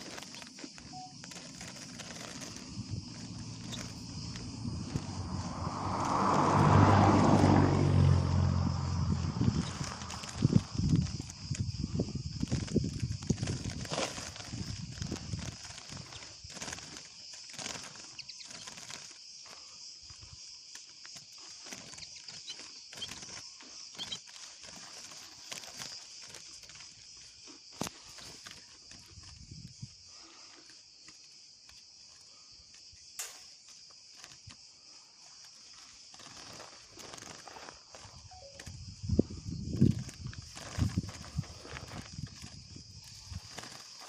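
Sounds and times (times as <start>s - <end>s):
faint ticks and rustles: 0.0s - 5.1s, 9.5s - 38.9s, 39.6s - 44.0s.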